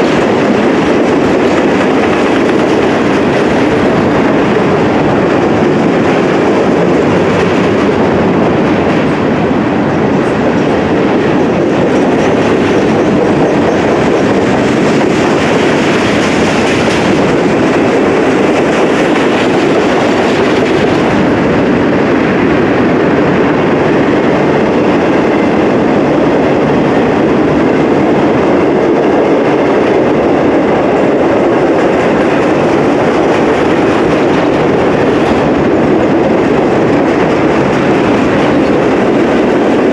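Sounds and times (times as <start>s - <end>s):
clickety-clack over rail joints: 0.0s - 39.9s
train wheels rumbling on rail: 0.0s - 39.9s.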